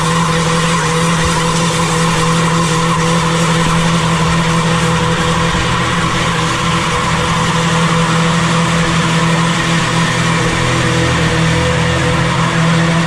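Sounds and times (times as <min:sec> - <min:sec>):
diesel engine at high revs: 0:00.0 - 0:13.0
rush of noise: 0:00.0 - 0:13.0.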